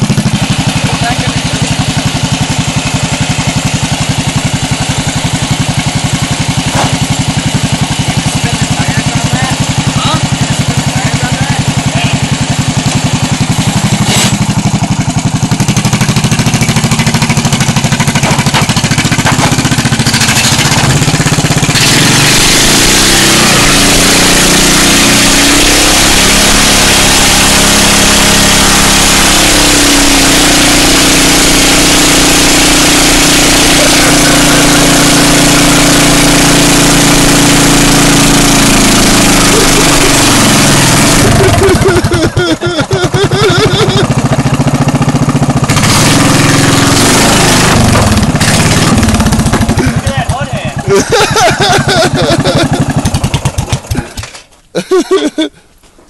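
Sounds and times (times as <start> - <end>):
tire spinning on sheet metal: 0.0 - 54.7
lawn mower engine revving: 0.0 - 55.4.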